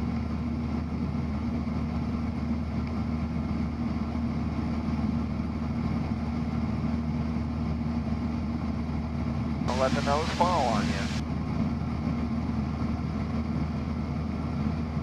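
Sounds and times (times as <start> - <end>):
airplane engine droning in cabin: 0.0 - 15.0.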